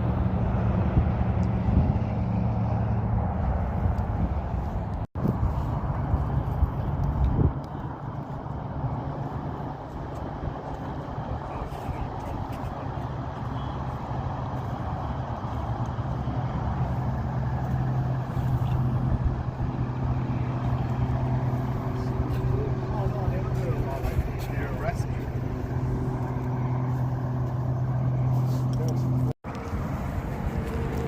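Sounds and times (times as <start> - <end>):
road noise: 0.0 - 31.0
vehicle engine humming: 0.0 - 31.0.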